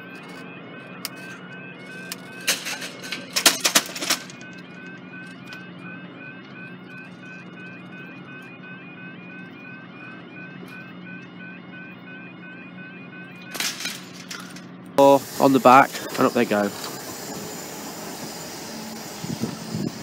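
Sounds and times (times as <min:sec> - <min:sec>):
level crossing alarm tone: 0:00.0 - 0:20.0
low hum: 0:00.0 - 0:20.0.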